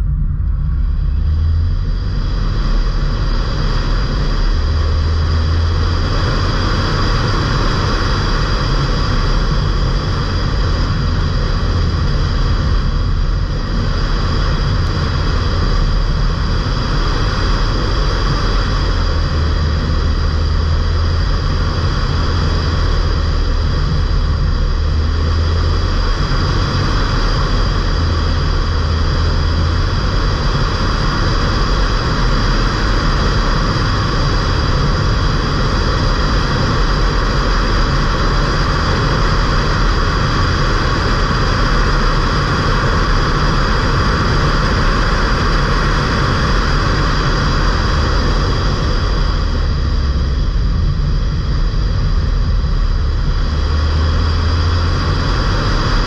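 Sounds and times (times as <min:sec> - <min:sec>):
diesel engine drone: 0:00.0 - 0:56.0
high whine: 0:00.0 - 0:56.0
road noise: 0:00.0 - 0:56.0.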